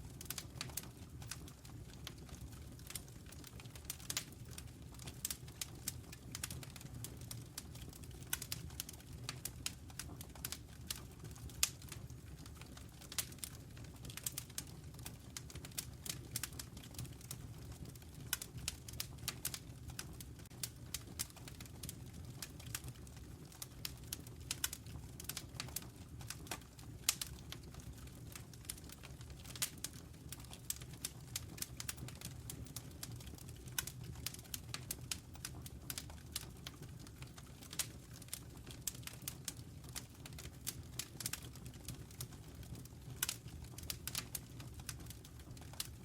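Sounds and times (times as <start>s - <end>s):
fire crackling and popping: 0.0s - 46.0s
low rumble of flames: 0.0s - 46.0s.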